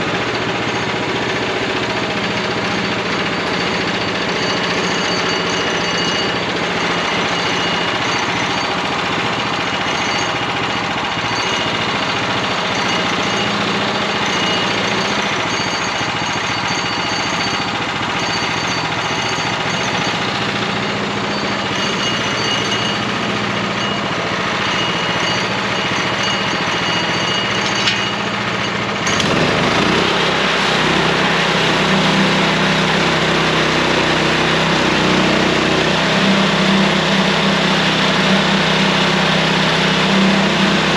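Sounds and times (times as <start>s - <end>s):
engine bandsaw cutting log: 0.0s - 40.9s.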